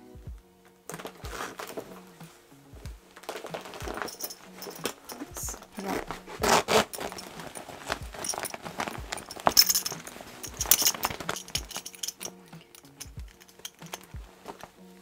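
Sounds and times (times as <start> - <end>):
background music with bassline: 0.0 - 15.0
metal zips and buckles jingling: 0.9 - 15.0.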